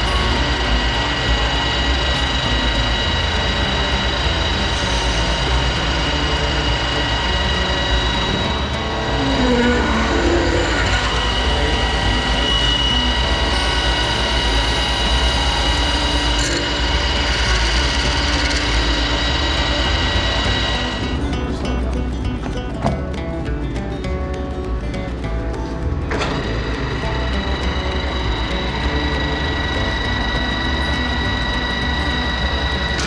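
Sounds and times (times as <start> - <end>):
high steady machine tones: 0.0 - 22.3, 25.1 - 33.0
metalworking machine drone: 0.0 - 22.6, 25.1 - 33.0.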